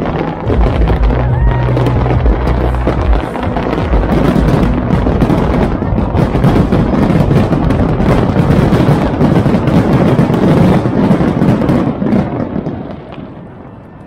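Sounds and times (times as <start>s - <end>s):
fireworks bangs rumbling: 0.0s - 14.0s.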